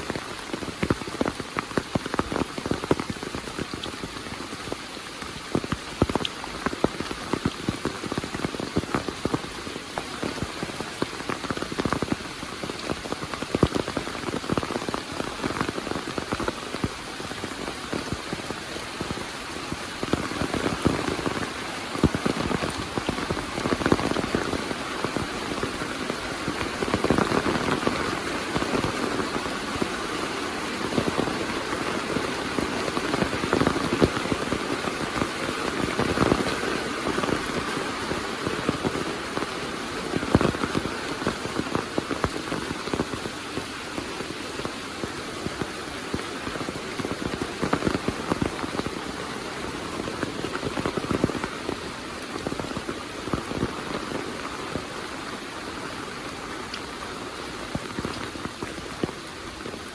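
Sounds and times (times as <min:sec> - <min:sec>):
patter of raindrop impacts: 0:00.0 - 0:55.4
heavy rain falling: 0:00.0 - 0:59.9.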